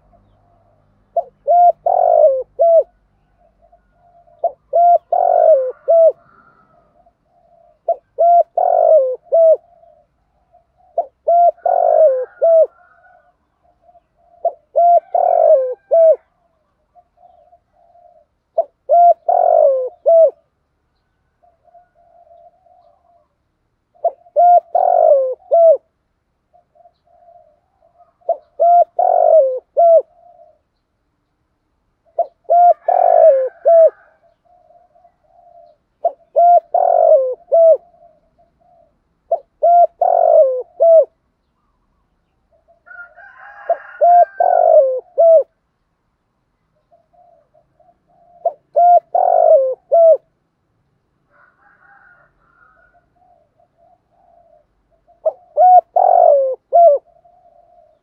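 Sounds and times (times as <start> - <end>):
dove cooing: 0.0 - 30.8, 31.9 - 45.6, 46.8 - 50.4, 51.3 - 58.0.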